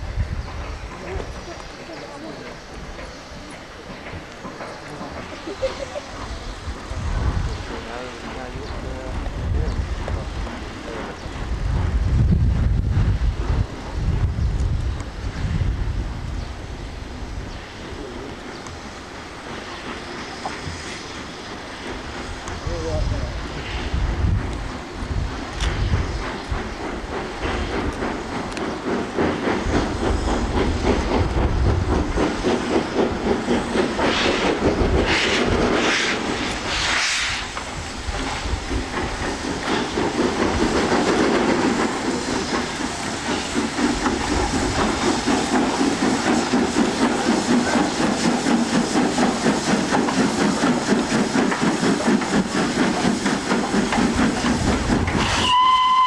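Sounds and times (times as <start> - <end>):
steam hissing: 0.0 - 56.0
steam locomotive exhaust beat: 0.0 - 56.0.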